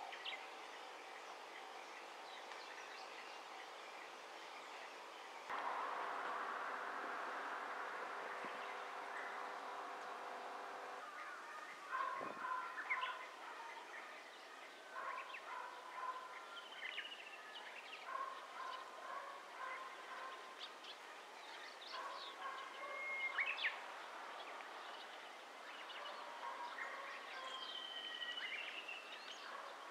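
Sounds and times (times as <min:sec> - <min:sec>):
faint steady hiss: 0:00.0 - 0:29.9.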